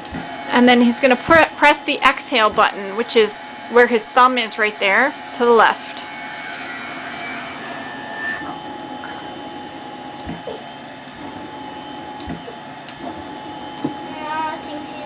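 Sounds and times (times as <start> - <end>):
blower rush of air and hum: 0.0 - 15.0.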